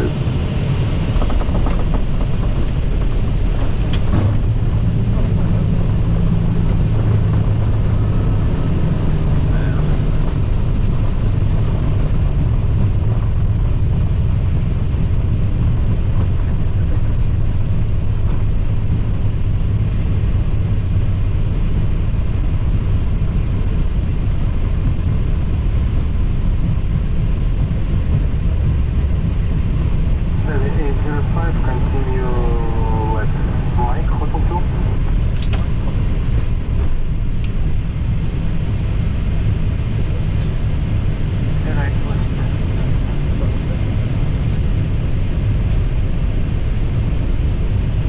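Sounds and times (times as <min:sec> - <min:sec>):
aircraft engine and airflow rumble: 0:00.0 - 0:48.0.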